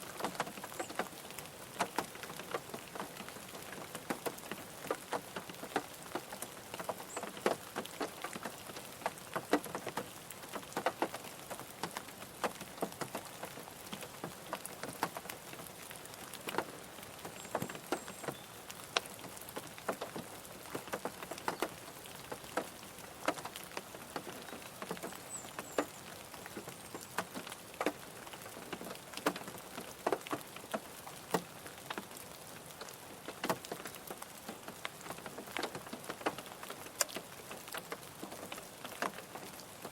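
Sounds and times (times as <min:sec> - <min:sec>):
rain on car roof: 0:00.0 - 0:39.9
raindrop taps: 0:00.1 - 0:39.9.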